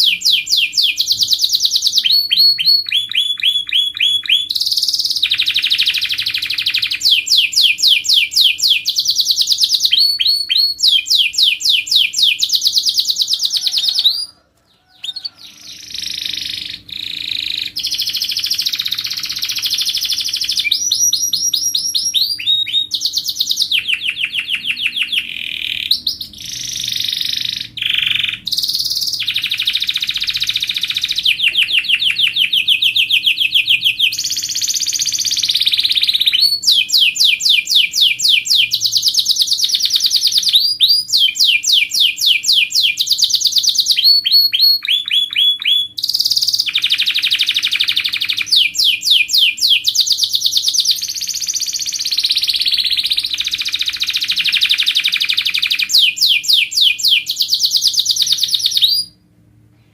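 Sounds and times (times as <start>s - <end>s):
canary singing trills: 0.0s - 59.2s.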